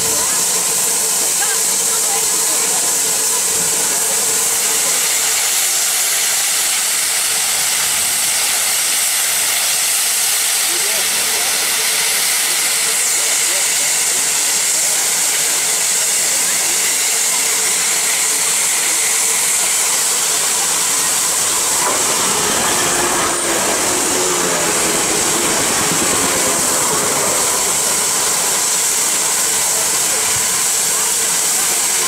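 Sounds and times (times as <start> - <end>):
passing train rumble: 0.0 - 32.0
steam safety valves hissing: 0.0 - 32.0.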